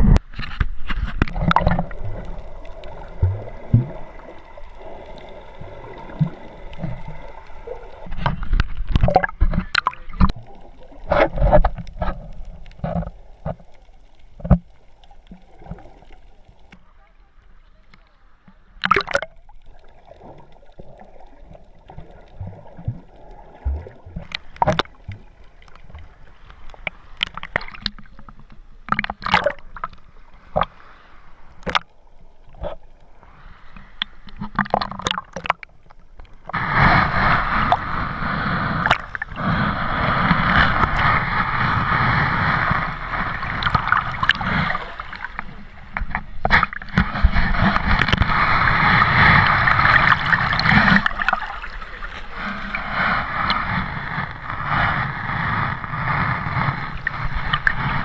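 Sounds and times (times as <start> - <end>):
rushing water: 0.0 - 16.8, 18.7 - 58.0
water sloshing and splashing: 0.0 - 16.8, 18.5 - 58.0.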